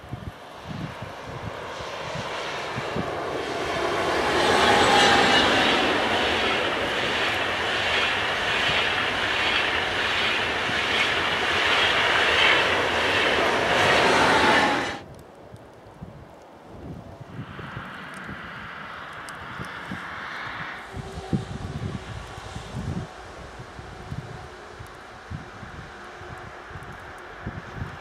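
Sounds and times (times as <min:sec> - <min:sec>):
high-speed train passing: 0:00.0 - 0:15.1, 0:17.3 - 0:28.0
wheels rushing on rail: 0:00.0 - 0:15.1, 0:17.4 - 0:28.0.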